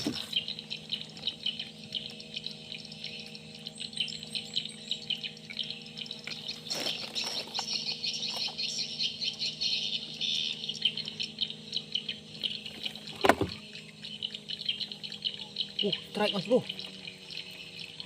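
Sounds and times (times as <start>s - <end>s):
birds chirping: 0.0s - 18.0s
insects chirping: 0.0s - 18.0s
steady low hum: 0.0s - 18.0s.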